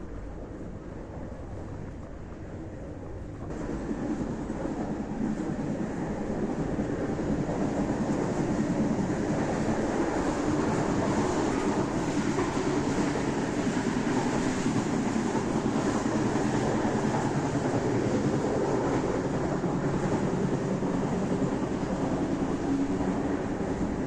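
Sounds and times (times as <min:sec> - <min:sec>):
train running along track: 0:00.0 - 0:24.0.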